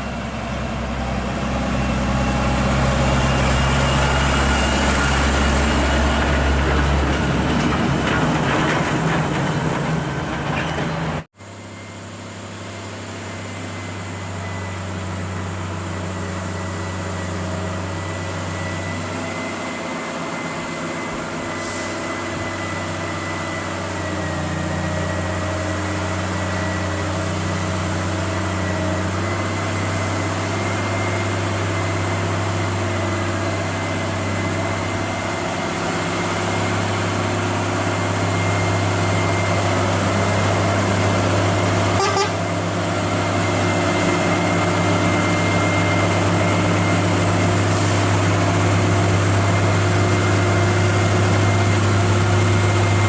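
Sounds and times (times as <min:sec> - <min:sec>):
truck diesel engine under load: 0:00.0 - 0:53.0.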